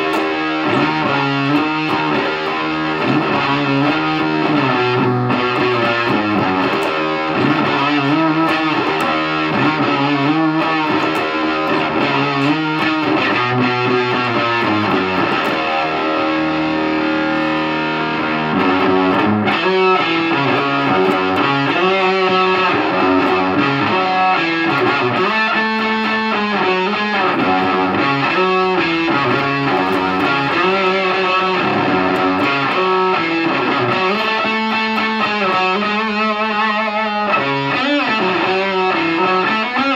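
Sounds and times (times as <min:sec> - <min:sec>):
fuzz-distorted electric guitar riffs: 0:00.0 - 0:39.9.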